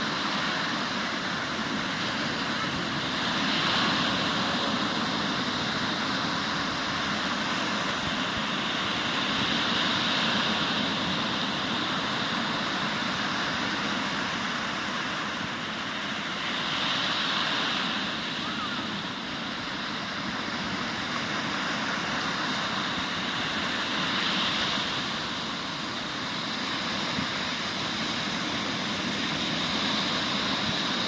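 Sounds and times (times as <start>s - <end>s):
sea surf breaking: 0.0s - 31.0s.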